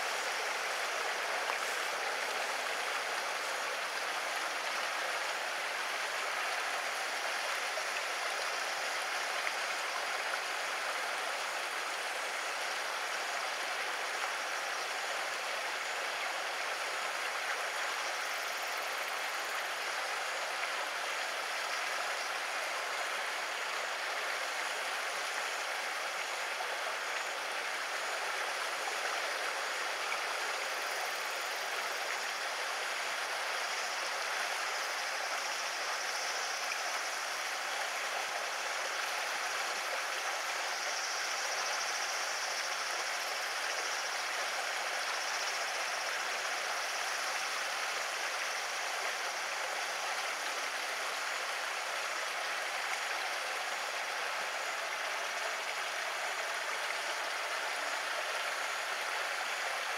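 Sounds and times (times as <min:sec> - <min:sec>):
running water hiss: 0:00.0 - 0:59.9.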